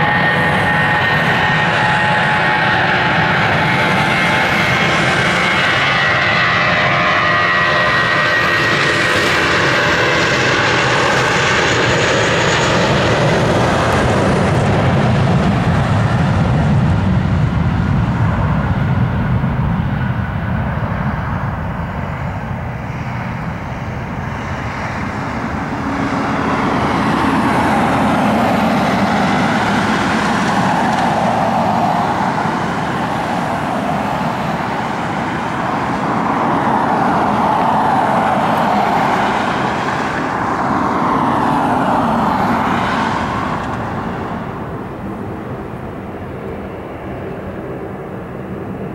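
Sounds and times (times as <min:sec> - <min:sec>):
jet engines at takeoff: 0:00.0 - 0:48.9.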